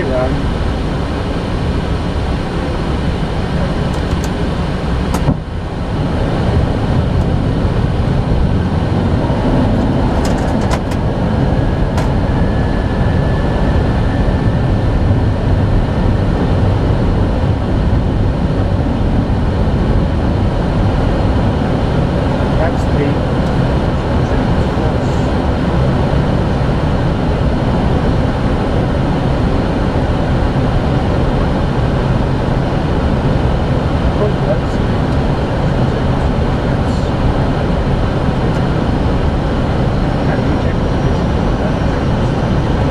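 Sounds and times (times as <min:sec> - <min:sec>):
cockpit airflow and engines: 0:00.0 - 0:42.9.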